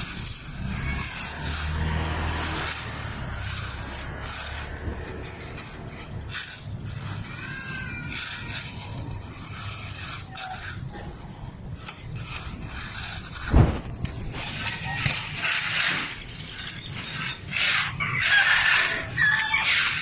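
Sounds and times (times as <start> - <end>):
scraping and rubbing strokes: 0.0 - 20.0
short squeaky glides: 0.0 - 20.0.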